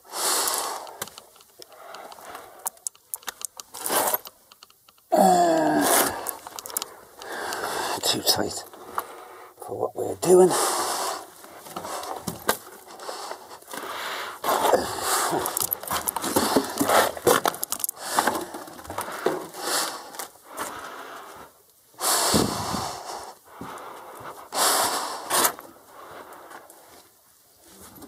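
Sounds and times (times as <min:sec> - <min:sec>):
person breathing hard: 0:00.0 - 0:02.8, 0:05.1 - 0:08.1, 0:08.7 - 0:09.6, 0:10.4 - 0:27.0.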